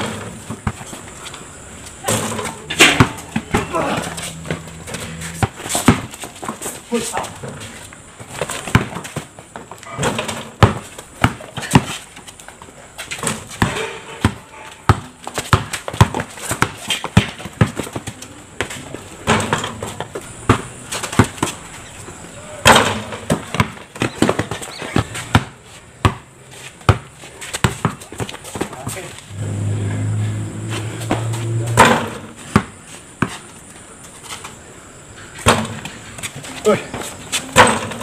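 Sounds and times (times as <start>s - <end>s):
basketball bouncing on concrete: 0.0s - 1.2s, 2.0s - 7.6s, 8.2s - 21.6s, 22.4s - 29.1s, 31.0s - 33.4s, 35.4s - 38.0s.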